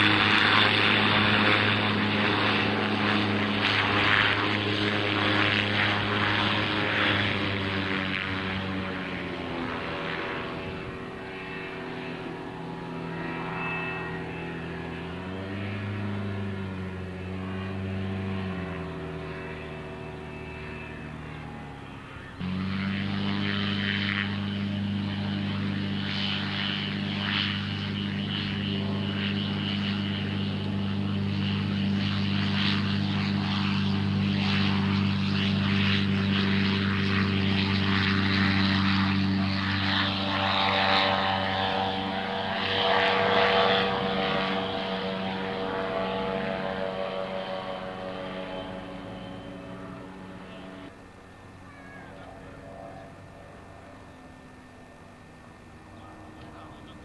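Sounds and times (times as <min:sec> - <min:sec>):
light aircraft propeller droning: 0:00.0 - 0:57.0.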